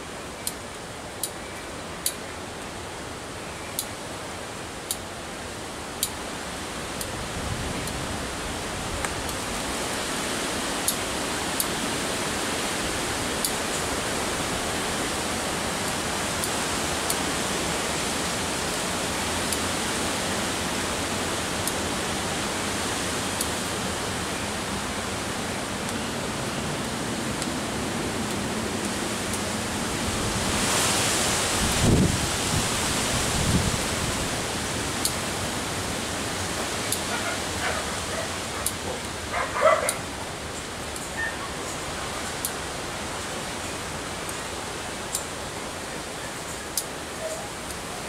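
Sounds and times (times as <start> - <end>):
steady rushing hiss: 0.0 - 48.0.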